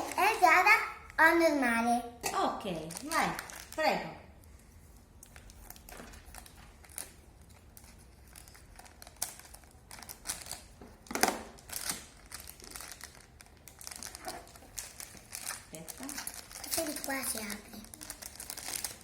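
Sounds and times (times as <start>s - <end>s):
plastic packaging crinkling: 2.7s - 19.0s.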